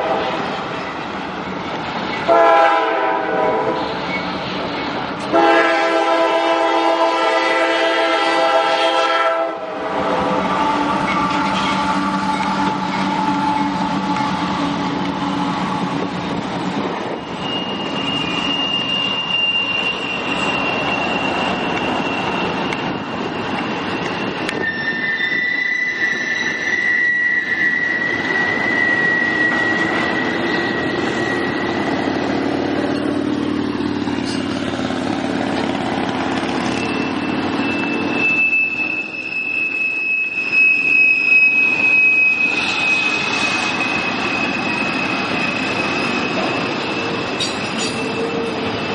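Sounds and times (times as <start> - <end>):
train wheels rumbling on rail: 0.0 - 48.9
high-pitched wheel squeals: 3.6 - 5.7, 7.4 - 48.9.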